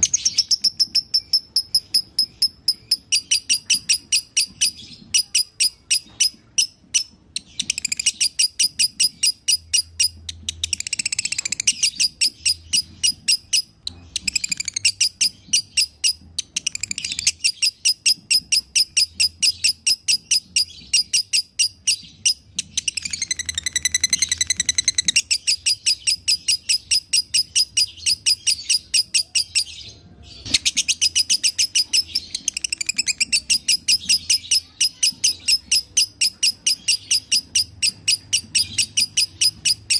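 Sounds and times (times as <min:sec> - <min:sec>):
lovebird chattering chirps: 0:00.0 - 0:39.9.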